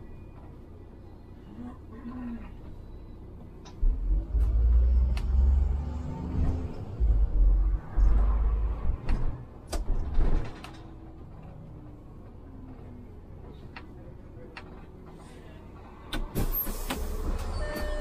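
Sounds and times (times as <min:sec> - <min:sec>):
bus engine rumble with rattles: 0:00.0 - 0:18.0.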